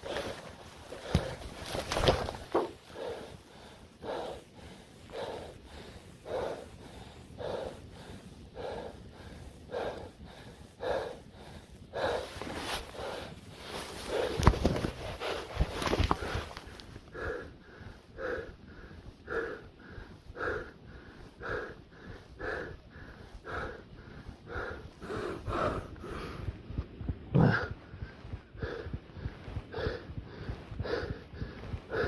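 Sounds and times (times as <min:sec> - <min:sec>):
man breathing heavily and wheezing: 0:00.0 - 0:32.0.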